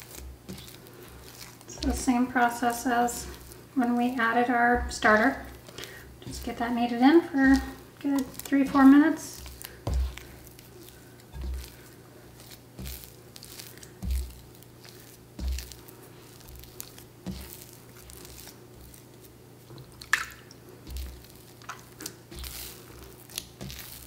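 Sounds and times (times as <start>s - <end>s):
dough thumping in bowl: 0.0s - 19.1s, 19.9s - 24.0s
hands kneading sticky dough: 0.0s - 24.0s.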